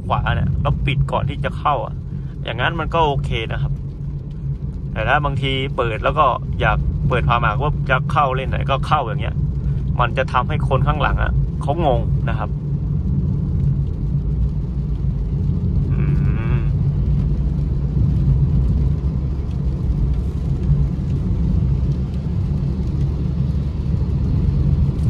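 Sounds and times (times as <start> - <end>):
car engine rumble: 0.0 - 25.0
tyres on wet road: 0.0 - 25.0.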